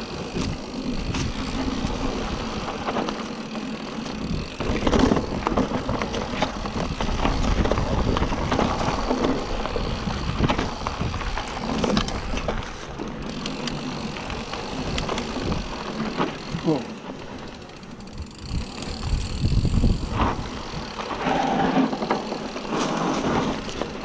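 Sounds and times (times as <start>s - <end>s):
bicycle rattling over rough ground: 0.0s - 24.0s.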